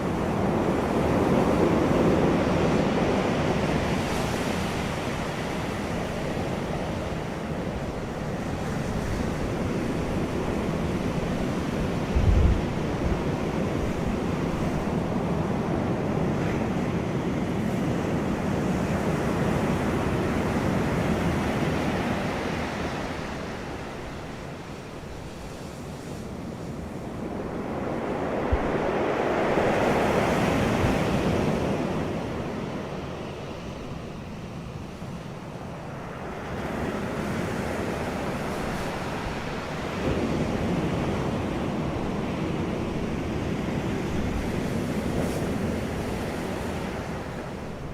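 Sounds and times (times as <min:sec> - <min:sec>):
wind blowing over microphone: 0:00.0 - 0:47.9.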